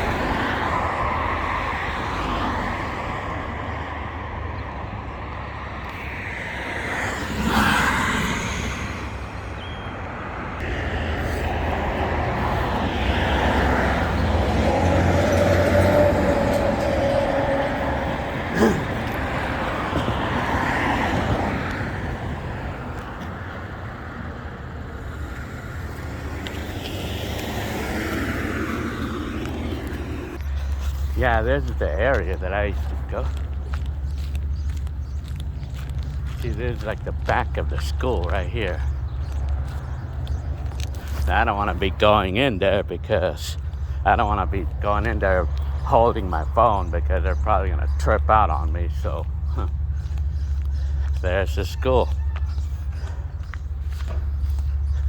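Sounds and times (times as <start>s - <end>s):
road traffic rumble: 0.0s - 55.0s
vehicle passing: 0.0s - 55.0s.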